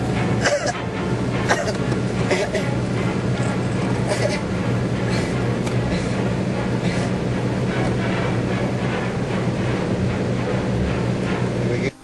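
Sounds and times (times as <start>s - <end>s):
car engine hum: 0.0s - 12.0s
rushing road noise: 0.0s - 12.0s.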